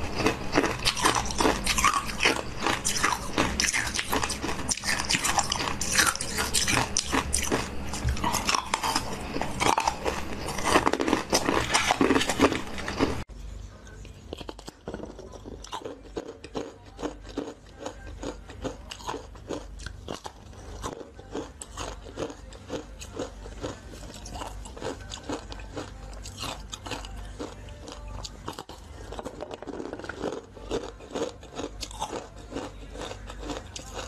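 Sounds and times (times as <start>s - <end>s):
crunching and chewing frozen fruit: 0.0s - 13.3s, 13.9s - 34.0s.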